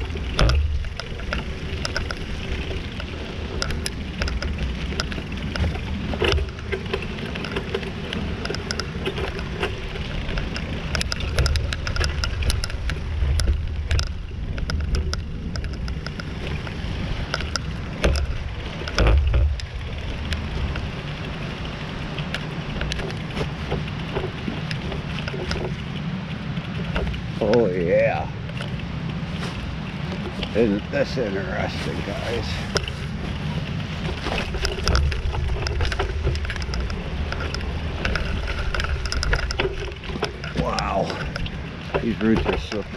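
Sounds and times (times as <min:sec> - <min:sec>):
bicycle tyres rolling on dirt: 0:00.0 - 0:42.9
bike rattling over bumps: 0:00.0 - 0:42.9
wind buffeting microphone: 0:00.0 - 0:42.9.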